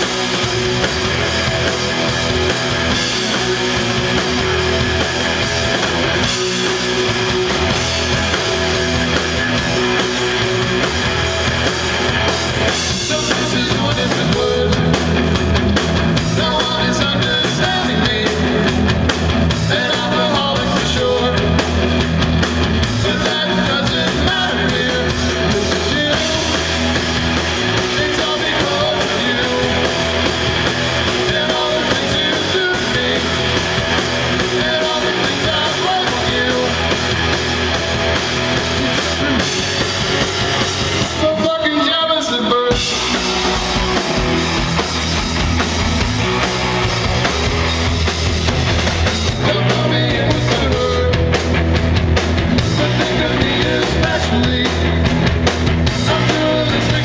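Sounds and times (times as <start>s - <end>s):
bass: 0.0s - 57.0s
drum kit: 0.0s - 57.0s
electric guitars: 0.0s - 57.0s.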